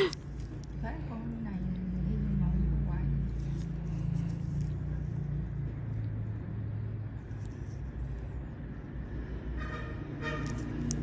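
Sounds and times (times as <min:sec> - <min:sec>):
low mechanical rumble and hum: 0:00.0 - 0:11.0.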